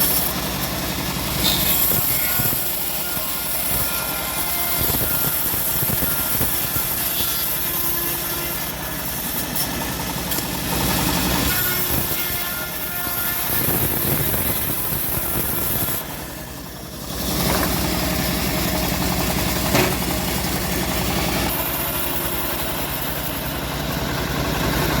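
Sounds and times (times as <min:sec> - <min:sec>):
engine-driven bandsaw running: 0:00.0 - 0:25.0.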